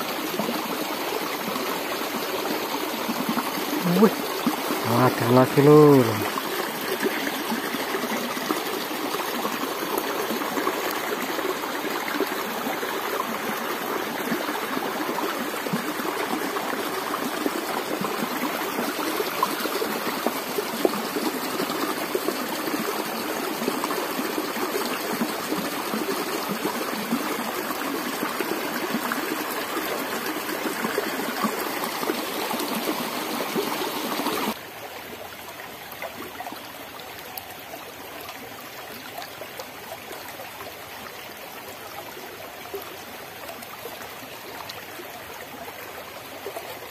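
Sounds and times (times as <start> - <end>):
stream water rushing and splashing: 0.0 - 46.9.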